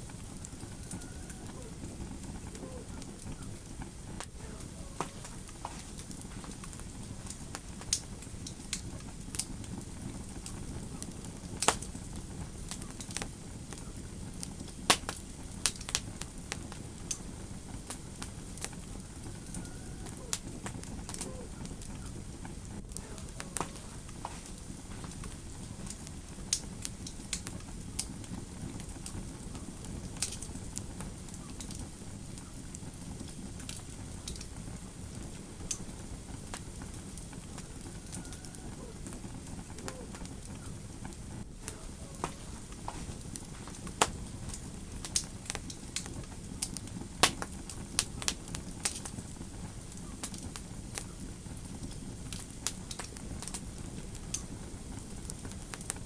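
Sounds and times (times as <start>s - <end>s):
low rumble of burning: 0.0s - 56.0s
wood fire popping and snapping: 0.0s - 56.0s.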